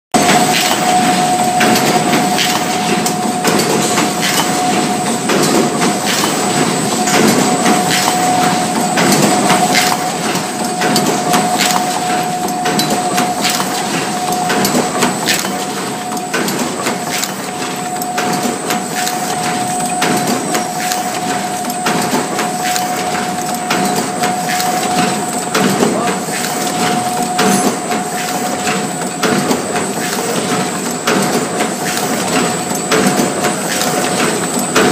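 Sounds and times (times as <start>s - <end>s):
steady machine tone: 0.2s - 31.6s
machine clattering and knocking: 0.2s - 34.9s.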